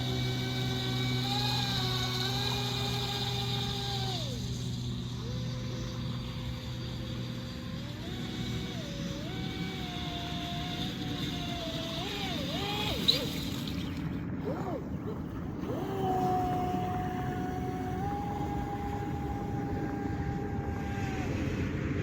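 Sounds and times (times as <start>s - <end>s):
small electric motor whining: 0.0s - 21.9s
low hum: 0.0s - 22.0s.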